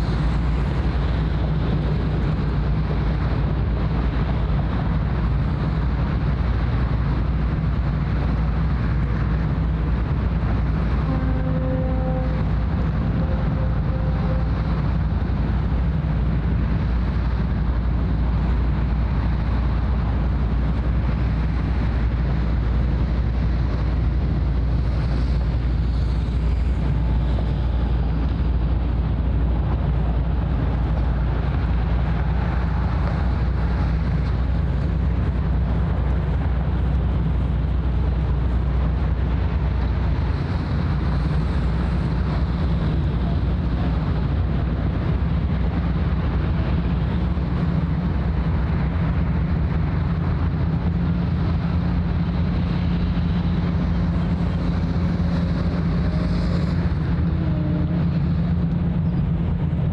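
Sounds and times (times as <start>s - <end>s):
ship engines rumbling: 0.0s - 59.9s
wind on microphone: 0.0s - 59.9s.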